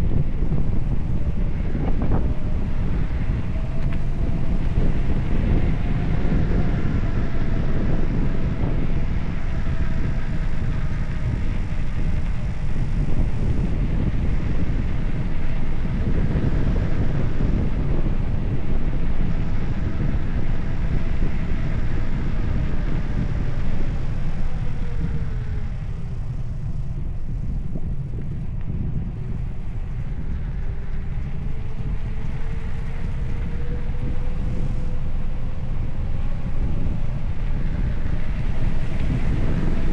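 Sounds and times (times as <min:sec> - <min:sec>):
faint whine: 0:00.0 - 0:39.9
wind buffeting microphone: 0:00.0 - 0:39.9.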